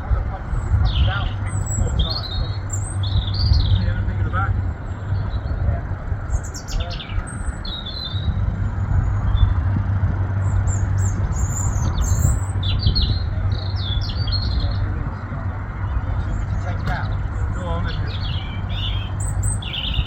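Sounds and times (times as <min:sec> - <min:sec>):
low hum: 0:00.0 - 0:20.0
small birds chirping: 0:00.0 - 0:20.0.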